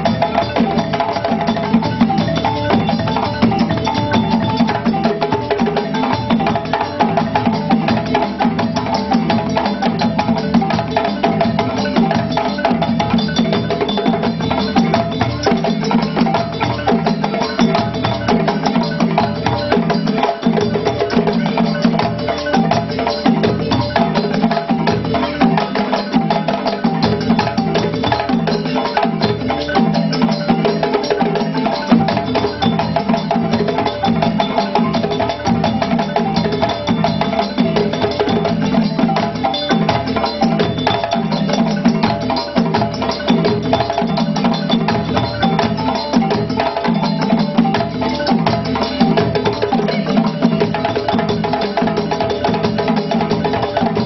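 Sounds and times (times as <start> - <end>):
balafons playing: 0.0 - 54.0
djembe hand drums: 0.0 - 54.0.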